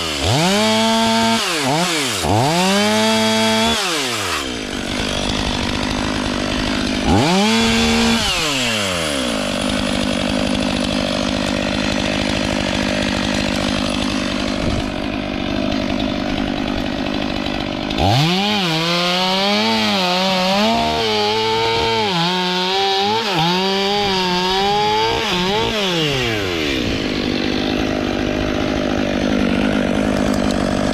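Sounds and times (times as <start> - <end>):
chainsaw cutting wood: 0.0 - 30.9
chainsaw idling and revving: 0.0 - 30.9.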